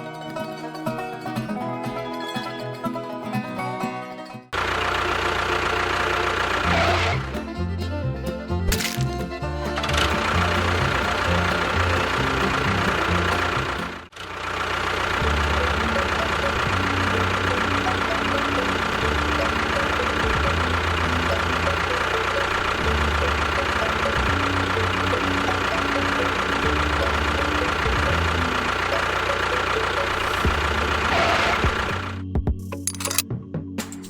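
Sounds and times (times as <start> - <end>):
engine-like running with high whine: 4.6 - 33.2.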